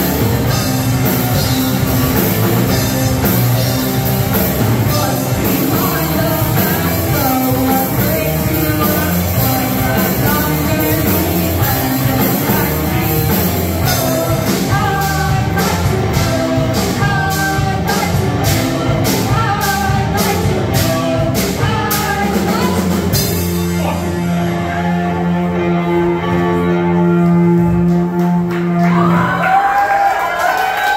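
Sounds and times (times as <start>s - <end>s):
person singing lead vocals: 0.0s - 27.1s
distorted electric guitars: 0.0s - 29.4s
drum kit: 0.0s - 29.6s.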